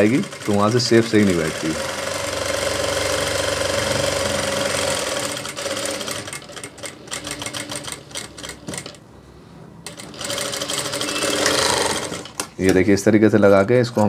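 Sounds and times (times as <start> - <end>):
sewing machine stitching cloth: 0.0 - 9.0, 9.9 - 12.5.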